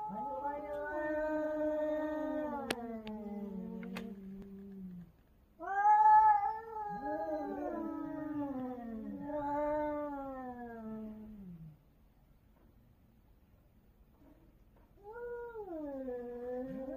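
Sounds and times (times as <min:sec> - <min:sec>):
cats yowling: 0:00.0 - 0:11.7, 0:15.0 - 0:16.9.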